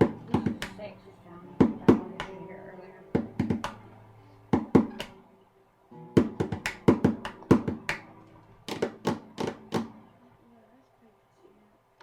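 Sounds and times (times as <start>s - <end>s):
acoustic guitar strumming chords: 0.0s - 10.4s.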